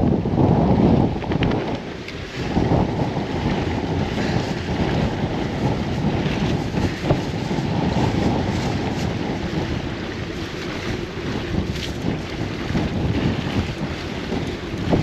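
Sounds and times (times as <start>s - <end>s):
sea washing: 0.0s - 15.0s
wind buffeting microphone: 0.0s - 15.0s.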